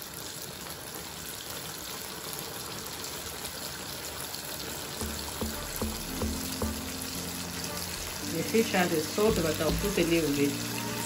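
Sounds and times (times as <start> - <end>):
faint crackles of frying: 0.0 - 11.0
food sizzling in hot oil: 1.8 - 11.0.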